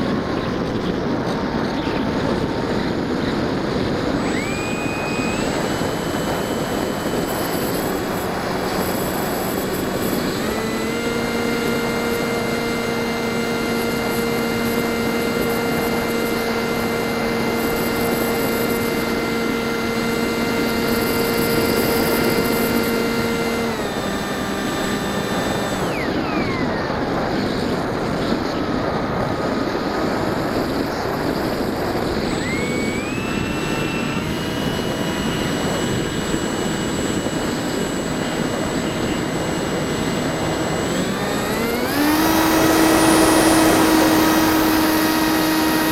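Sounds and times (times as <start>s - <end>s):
electric motor and propeller whining: 0.0s - 45.9s.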